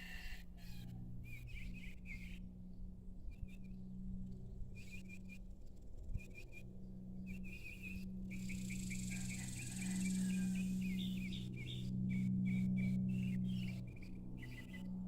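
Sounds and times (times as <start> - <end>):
low steady hum: 0.0 - 15.0
small birds twittering: 0.6 - 15.0.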